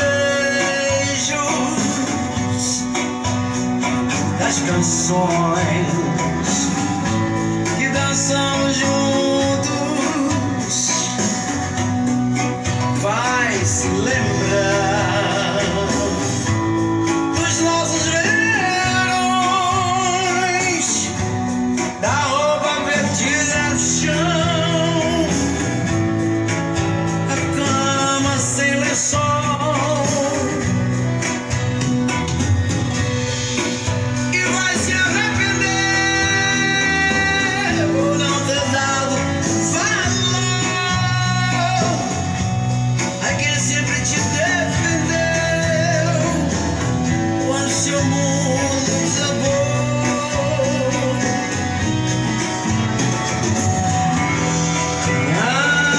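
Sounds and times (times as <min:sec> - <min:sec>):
song with vibrato singing and band: 0:00.0 - 0:55.9.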